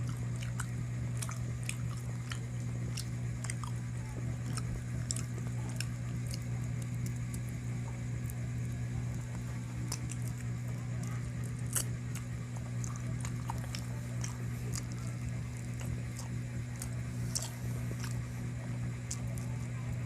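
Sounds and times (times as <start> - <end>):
person chewing food: 0.0 - 19.8
steady low hum: 0.0 - 20.0.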